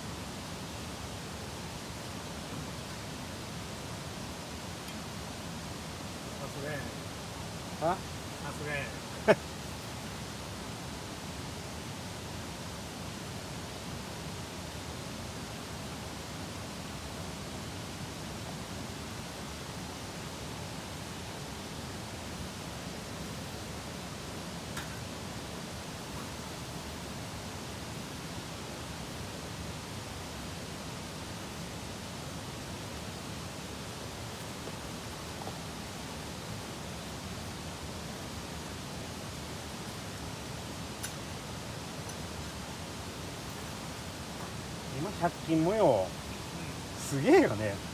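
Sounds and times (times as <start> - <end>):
steady hiss: 0.0 - 47.9.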